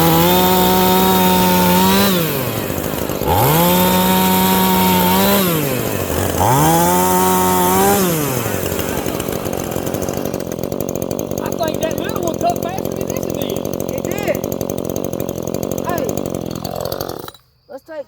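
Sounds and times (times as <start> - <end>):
chainsaw revving: 0.0 - 17.6.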